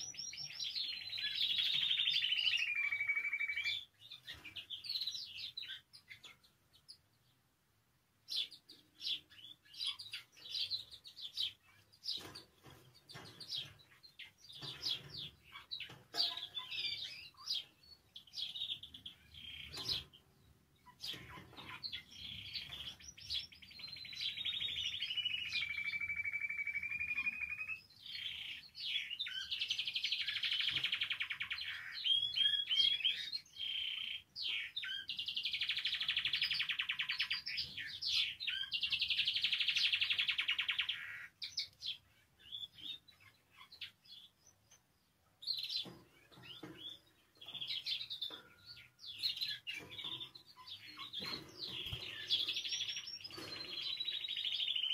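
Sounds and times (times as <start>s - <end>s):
canary singing trills: 0.0s - 7.4s, 8.2s - 54.9s.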